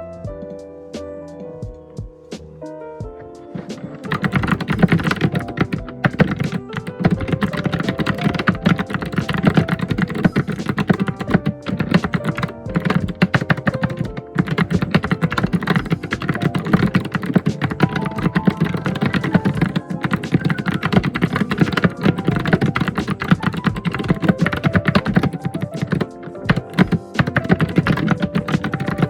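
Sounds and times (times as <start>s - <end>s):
background music: 0.0s - 29.0s
fast typing on keyboard: 3.6s - 29.0s.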